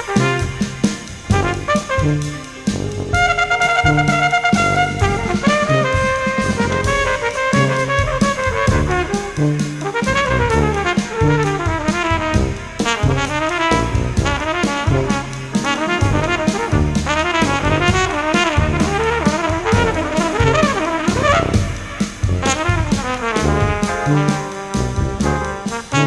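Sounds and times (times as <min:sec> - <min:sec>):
baritone saxophone: 0:00.0 - 0:26.0
drum kit: 0:00.0 - 0:26.0
keyboards: 0:00.0 - 0:26.0
trumpets playing melody: 0:00.0 - 0:26.0
tuba bass line: 0:00.0 - 0:26.0.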